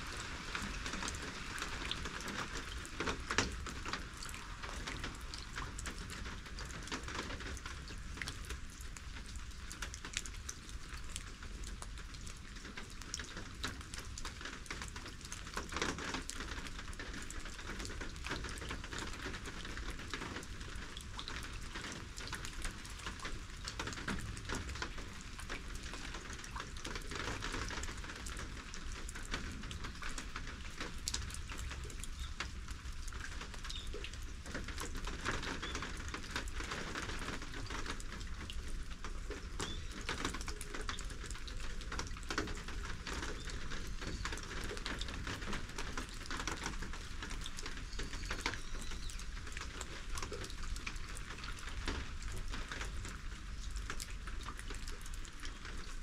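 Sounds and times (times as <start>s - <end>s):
raindrops striking close by: 0.0s - 56.0s
steady rain falling: 0.0s - 56.0s.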